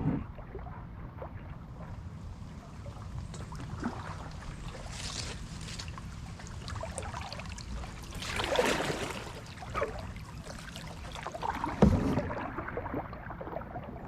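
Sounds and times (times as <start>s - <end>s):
kayak paddle pulling through water: 0.0s - 14.0s
low steady rumble: 0.0s - 14.0s.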